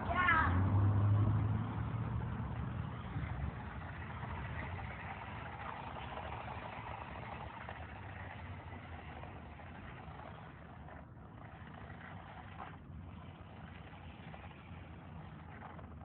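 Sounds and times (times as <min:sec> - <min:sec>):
toy car motor whirring: 0:01.8 - 0:16.0.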